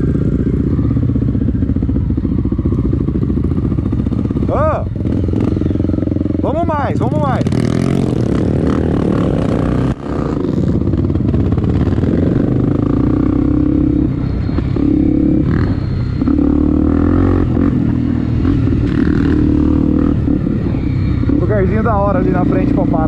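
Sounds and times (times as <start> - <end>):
motorcycle engine running: 0.0 - 23.0
motorcycle rattling: 0.0 - 23.0.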